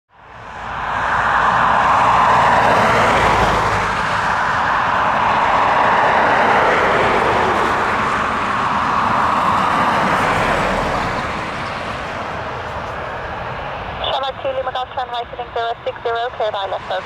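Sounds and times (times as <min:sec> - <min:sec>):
airliner engine rush: 0:00.1 - 0:17.0.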